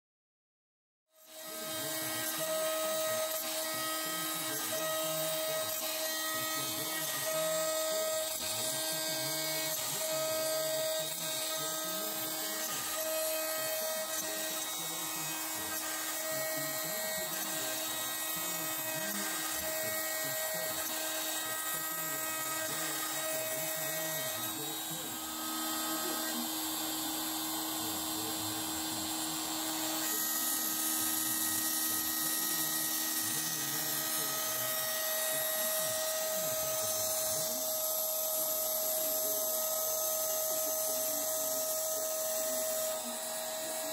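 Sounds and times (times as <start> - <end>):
router spindle whining while cutting: 1.2 - 43.9.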